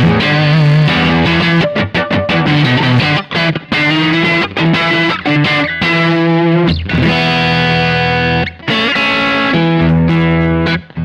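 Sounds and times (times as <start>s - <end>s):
electric guitar chords ringing: 0.0s - 11.0s.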